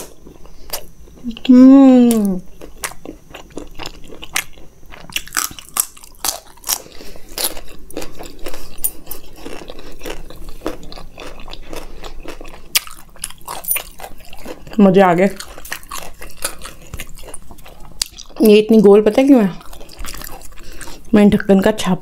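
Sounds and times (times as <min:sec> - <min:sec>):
close chewing with crunchy clicks: 0:02.2 - 0:21.6.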